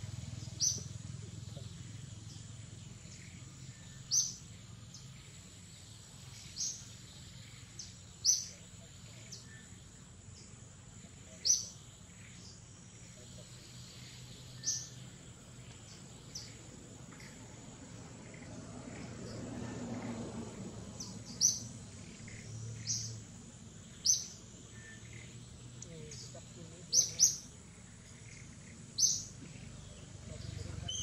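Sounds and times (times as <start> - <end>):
high insect whine: 0.0 - 31.0.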